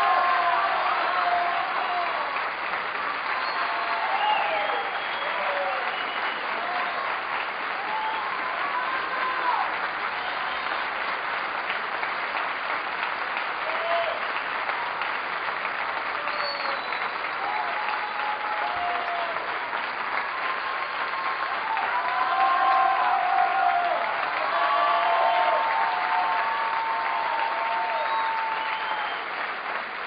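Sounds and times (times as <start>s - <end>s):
audience applauding: 0.0s - 30.0s.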